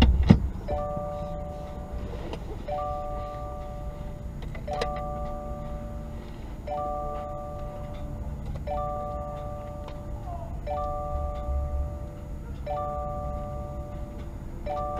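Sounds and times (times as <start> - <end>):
low rumble: 0.0 - 14.9
electronic chime tones: 0.6 - 14.9.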